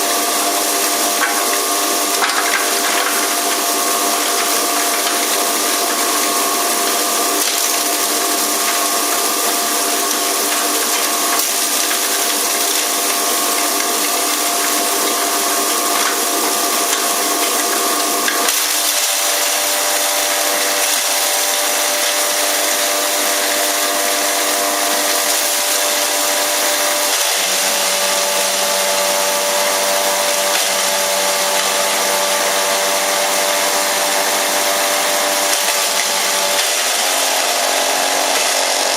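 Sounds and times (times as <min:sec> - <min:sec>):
herb grinder running: 0:00.0 - 0:38.9.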